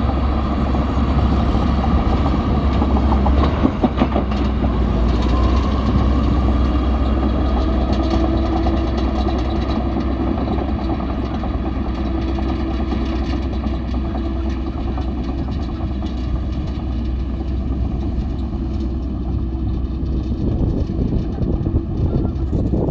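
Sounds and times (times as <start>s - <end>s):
diesel engine rumbling: 0.0s - 22.9s
engine clatter: 0.0s - 22.9s.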